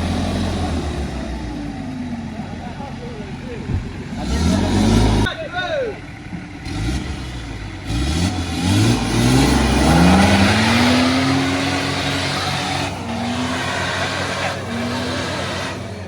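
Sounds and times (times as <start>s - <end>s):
engine revving: 0.0s - 3.0s, 3.8s - 5.3s, 6.5s - 16.0s.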